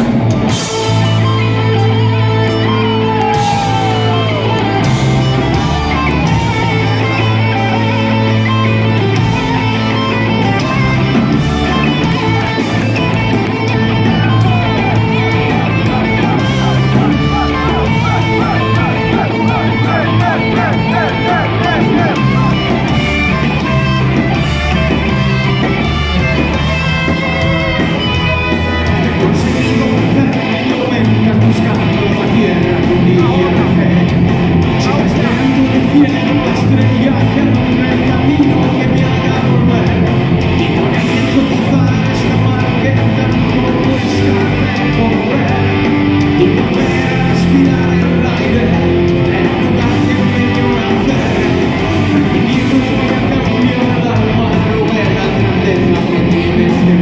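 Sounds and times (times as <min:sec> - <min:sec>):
bass: 0:00.0 - 0:57.0
distorted electric guitars: 0:00.0 - 0:57.0
drums: 0:00.0 - 0:57.0
keyboard: 0:00.0 - 0:57.0.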